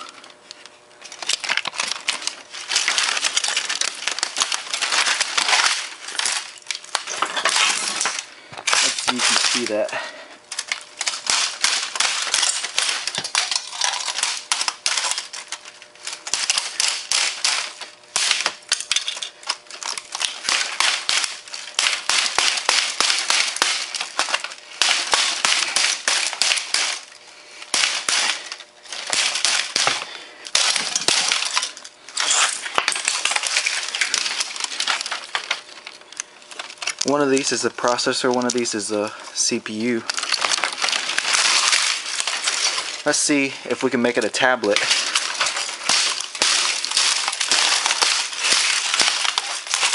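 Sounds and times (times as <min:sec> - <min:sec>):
plastic casing crackling and snapping: 0:00.0 - 0:49.9.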